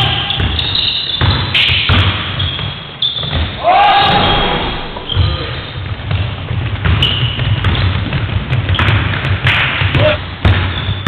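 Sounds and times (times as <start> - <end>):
sneaker squeaks: 0.0 - 9.3, 10.0 - 11.0
basketball dribbling on wooden floor: 0.3 - 3.6, 5.0 - 11.0.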